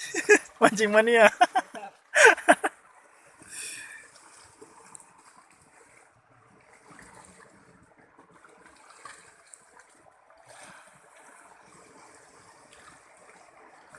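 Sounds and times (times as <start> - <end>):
flowing water: 0.0 - 13.9.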